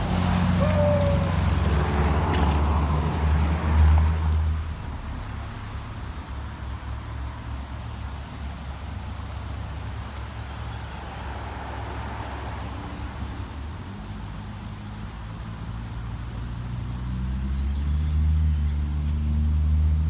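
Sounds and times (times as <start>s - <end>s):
road traffic rumbling: 0.0s - 20.0s.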